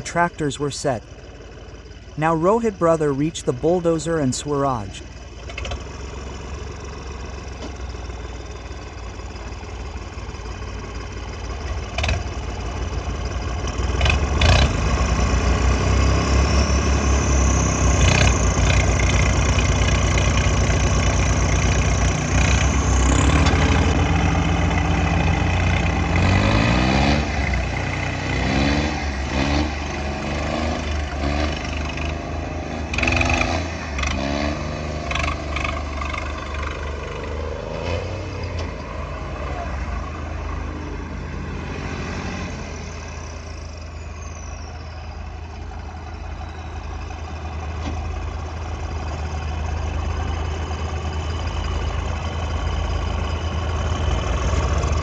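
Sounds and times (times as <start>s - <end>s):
tractor engines revving: 0.0s - 55.0s
tractor engines rumbling under load: 0.0s - 55.0s.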